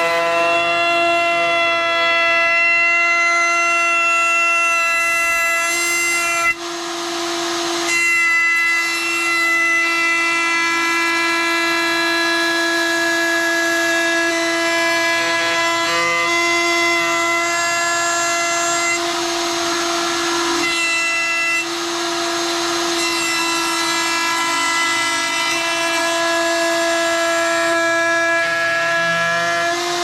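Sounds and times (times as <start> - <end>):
router cutting wood: 0.0 - 30.0
wood router high whine: 0.0 - 30.0.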